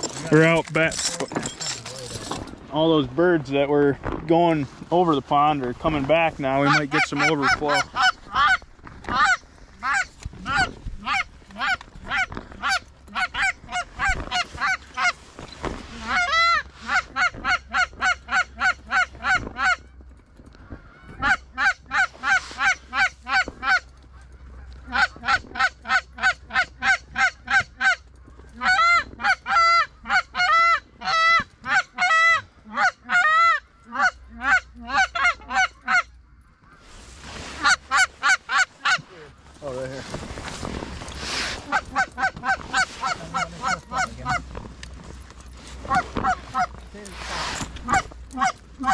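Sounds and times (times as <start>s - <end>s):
geese honking and clucking: 5.3s - 48.9s.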